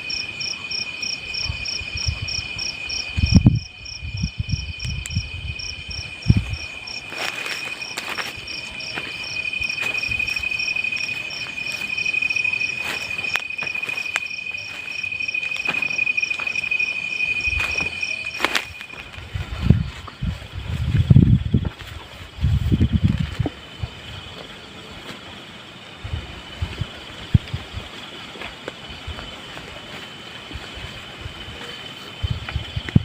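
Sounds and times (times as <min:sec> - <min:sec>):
crickets chirping: 0:00.0 - 0:33.0
insects trilling: 0:00.0 - 0:33.0.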